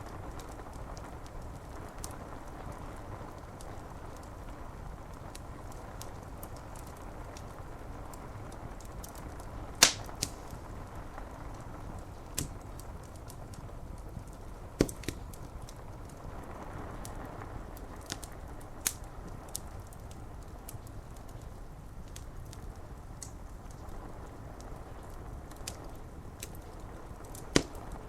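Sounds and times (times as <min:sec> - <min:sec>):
rain on window glass: 0:00.0 - 0:28.0
wood fire crackling and popping: 0:00.0 - 0:28.0.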